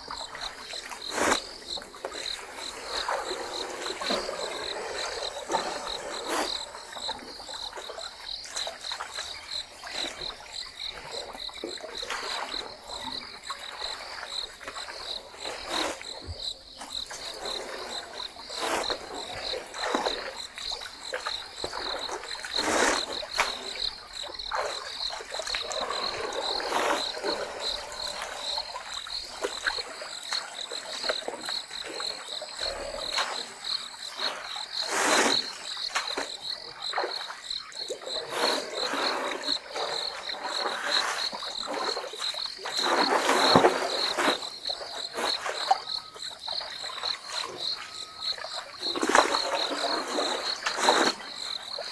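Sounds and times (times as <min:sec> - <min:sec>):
water splashing and sloshing: 0:00.0 - 0:51.9.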